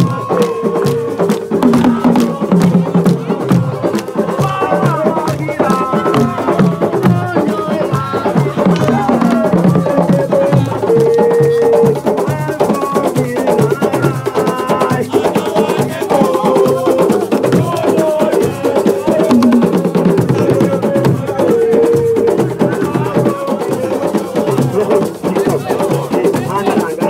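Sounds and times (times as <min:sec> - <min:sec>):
fast drum rhythm: 0:00.0 - 0:27.0
voices singing: 0:00.0 - 0:27.0.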